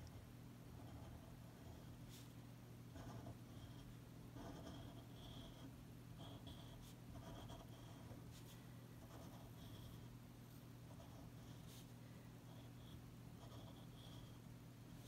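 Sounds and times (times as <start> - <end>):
steady low hum: 0.0 - 15.0
pen scratching on paper: 0.8 - 2.3, 2.9 - 10.1, 10.9 - 11.9, 12.5 - 15.0.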